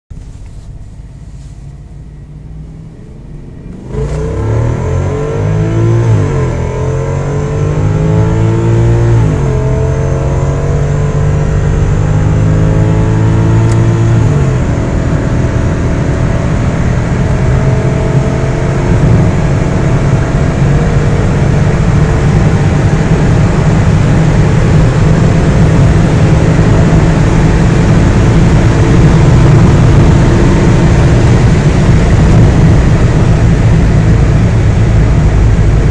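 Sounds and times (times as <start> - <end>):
car engine accelerating: 0.1 - 35.9.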